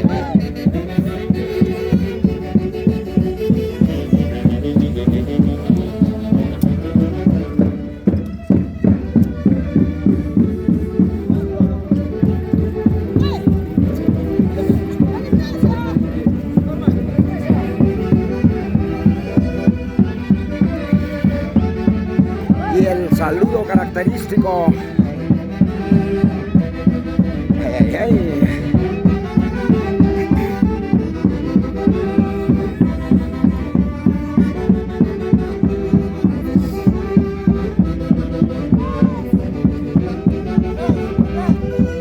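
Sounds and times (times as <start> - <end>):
folk orchestra playing: 0.0 - 42.0
steady drum beat: 0.0 - 42.0.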